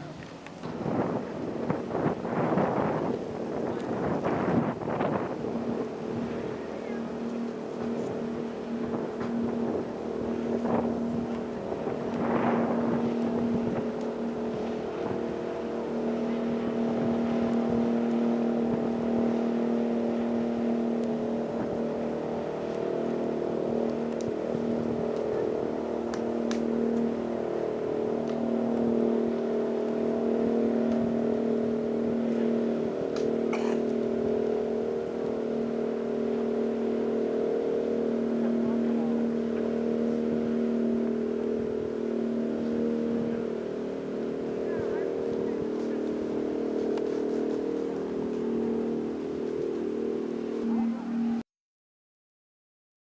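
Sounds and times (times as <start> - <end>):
boat engines droning: 0.0 - 51.4.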